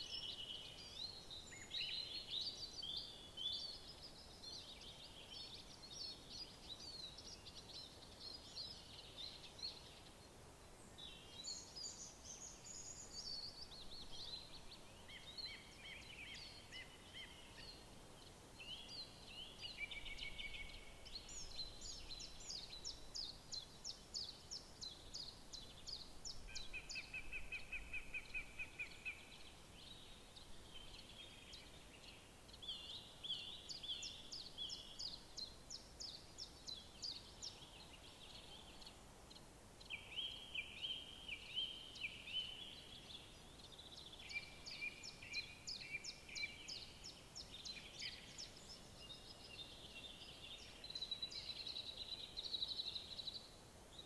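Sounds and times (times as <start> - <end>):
faint background hiss: 0.0 - 54.0
songbirds chirping: 0.0 - 54.0.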